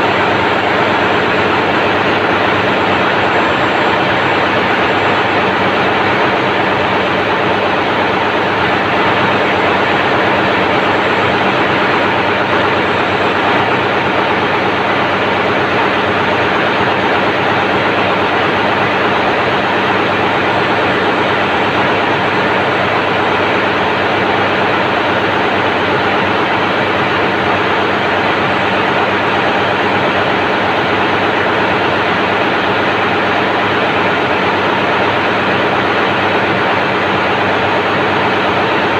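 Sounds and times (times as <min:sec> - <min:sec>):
diesel generator engine running: 0:00.0 - 0:38.9.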